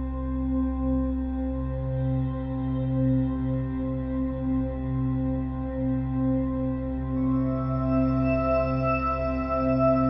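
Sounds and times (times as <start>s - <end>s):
ambient music with held tones: 0.0s - 10.0s.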